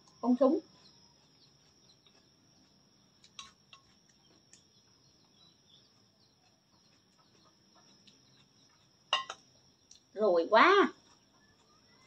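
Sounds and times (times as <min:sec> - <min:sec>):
faint chirps: 0:00.0 - 0:12.0.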